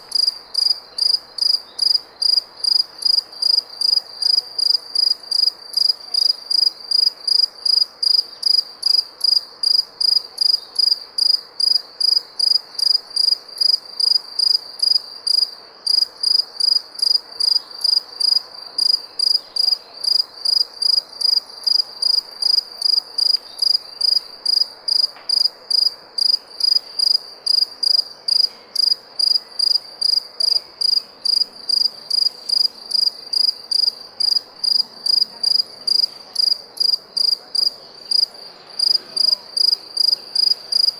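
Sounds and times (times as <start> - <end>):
cricket chirping: 0.0 - 40.9
faint background hiss: 0.0 - 40.9.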